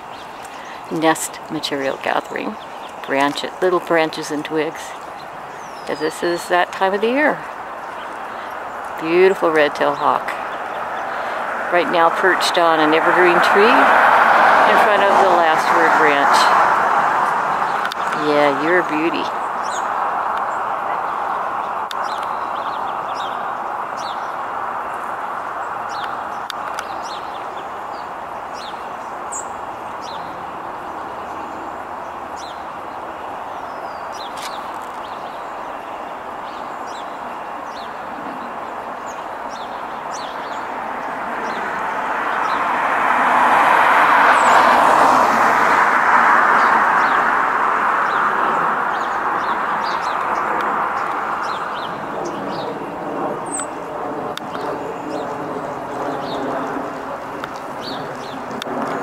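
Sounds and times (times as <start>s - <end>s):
small birds chirping: 0.0s - 42.8s, 48.0s - 59.0s
street traffic: 0.0s - 59.0s
vehicle passing: 0.0s - 59.0s.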